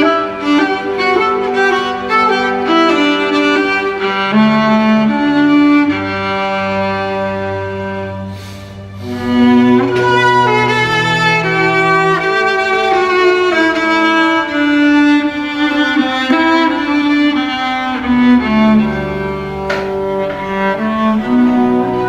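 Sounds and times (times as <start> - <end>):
string ensemble slow melody: 0.0 - 22.0.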